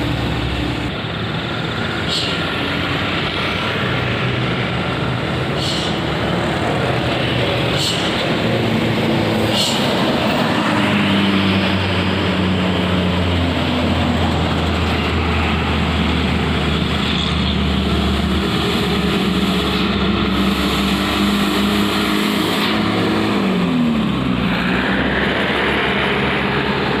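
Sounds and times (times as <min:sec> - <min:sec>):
heavy trucks passing: 0:00.0 - 0:27.0.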